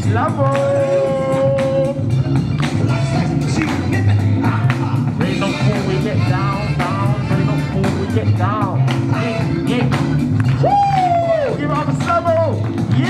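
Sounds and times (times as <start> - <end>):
bass line: 0.0 - 13.0
drum beat: 0.0 - 13.0.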